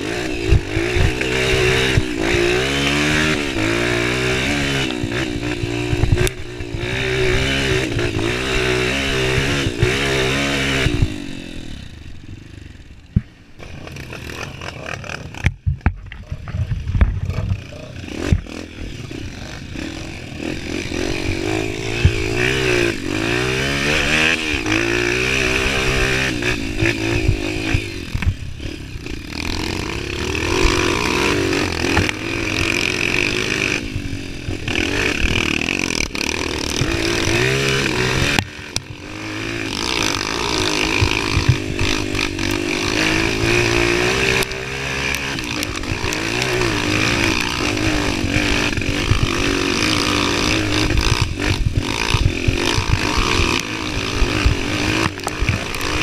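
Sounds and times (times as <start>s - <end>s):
motorcycle engine under load: 0.0s - 56.0s.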